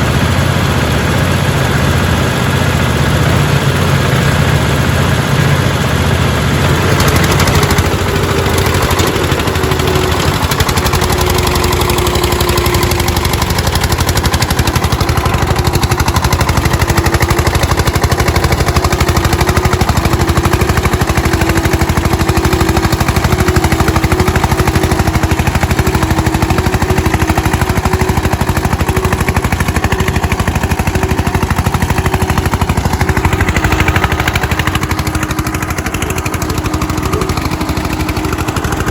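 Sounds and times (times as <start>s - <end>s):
tractor diesel engines pounding: 0.0s - 38.9s.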